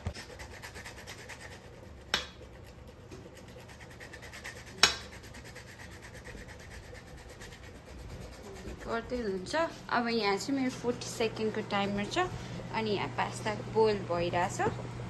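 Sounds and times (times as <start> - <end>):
fast scraping strokes: 0.0 - 12.7.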